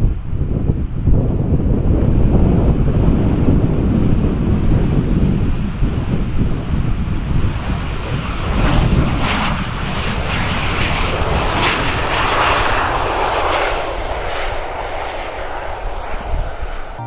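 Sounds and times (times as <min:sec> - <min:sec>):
wind buffeting microphone: 0:00.0 - 0:17.0
jet engines roaring: 0:01.7 - 0:17.0.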